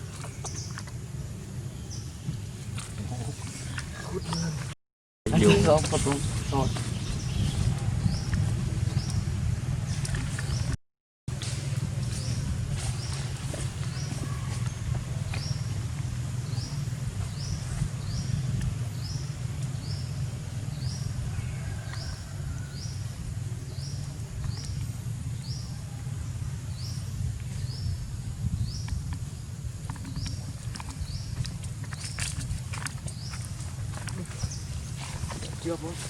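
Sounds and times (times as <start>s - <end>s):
low rumble: 5.9s - 36.0s.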